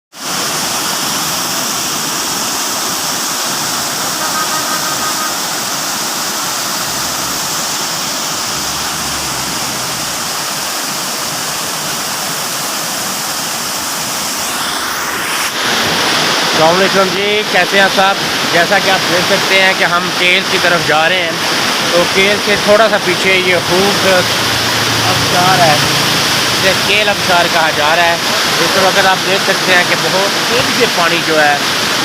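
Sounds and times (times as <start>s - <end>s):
waterfall rushing: 0.2s - 32.0s.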